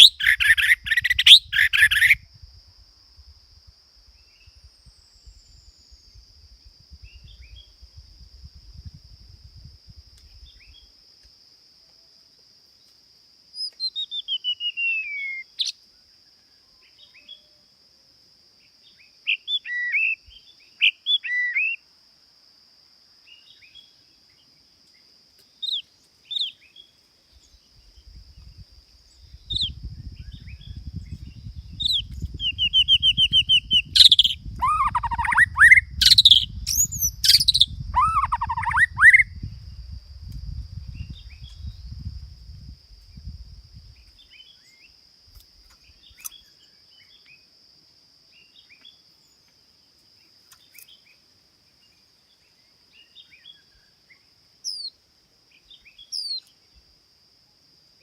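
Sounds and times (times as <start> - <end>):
songbird singing: 0.0 - 2.6, 4.0 - 11.3, 11.9 - 17.8, 18.5 - 21.9, 23.0 - 47.6, 48.2 - 57.6.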